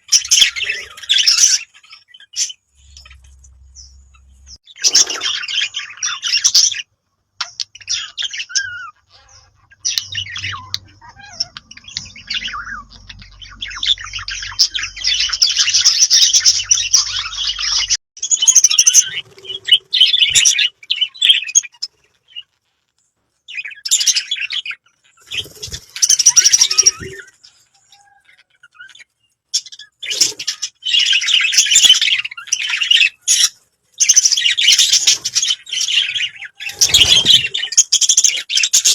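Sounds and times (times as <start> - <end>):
budgerigars chattering and warbling: 0.0 - 22.4, 23.5 - 38.9.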